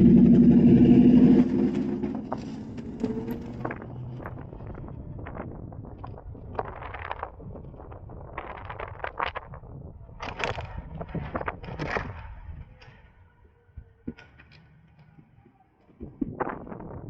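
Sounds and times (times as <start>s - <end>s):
wind buffeting microphone: 0.0s - 14.2s, 15.8s - 17.0s.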